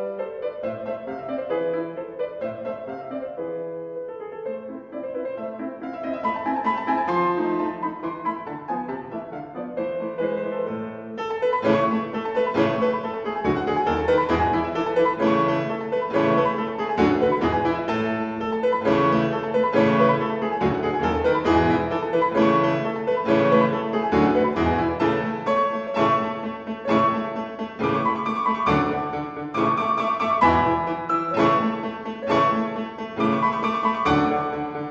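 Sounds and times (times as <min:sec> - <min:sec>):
classical keyboard piece: 0:00.0 - 0:34.9.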